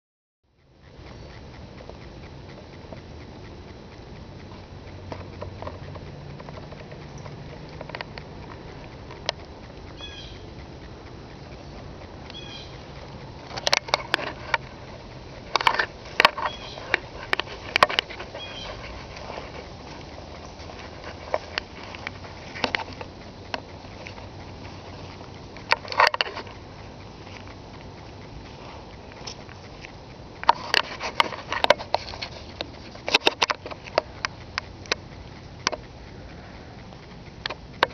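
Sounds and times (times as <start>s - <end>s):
low hum: 0.5s - 37.9s
outdoor background hiss: 0.5s - 37.9s
loud sharp crackling clicks: 0.8s - 37.9s.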